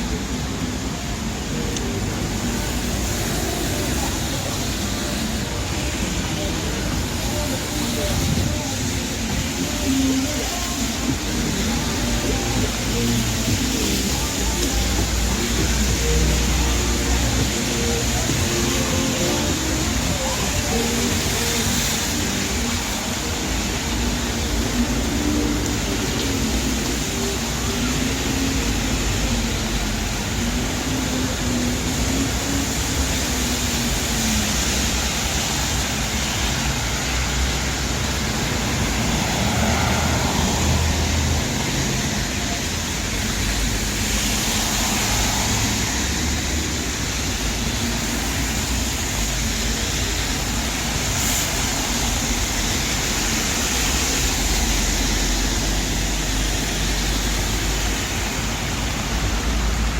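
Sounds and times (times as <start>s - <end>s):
falling rain: 0.0s - 59.9s
traffic on wet roads: 0.0s - 59.9s.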